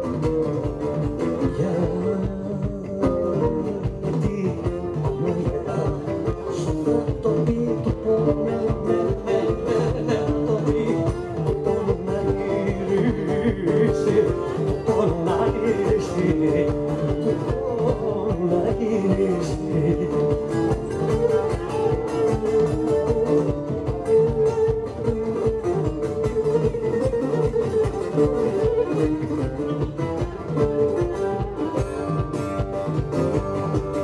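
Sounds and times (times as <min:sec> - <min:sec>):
man singing: 0:00.0 - 0:32.2
drum and bass beat: 0:00.0 - 0:34.0
plucked lute: 0:00.0 - 0:34.0.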